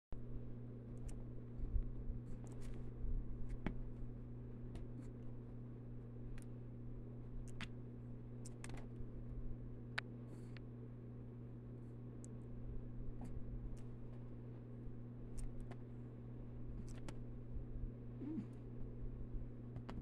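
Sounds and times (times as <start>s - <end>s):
low hum: 0.2s - 20.0s.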